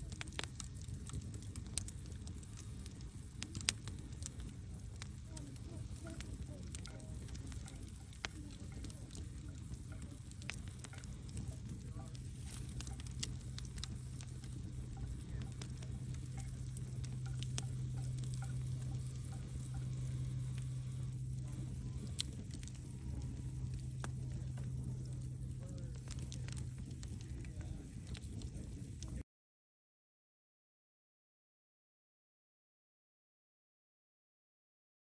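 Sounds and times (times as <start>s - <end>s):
fire hissing and rumbling: 0.0s - 29.2s
logs crackling and popping: 0.0s - 29.2s.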